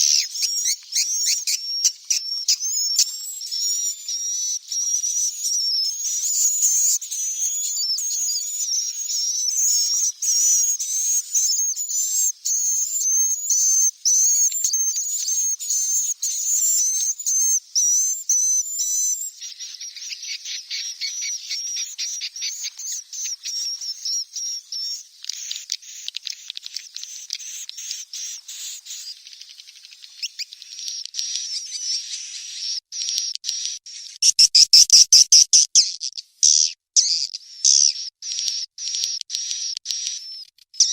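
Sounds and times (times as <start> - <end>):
swiftlet chicks chirping: 0.0 - 40.9.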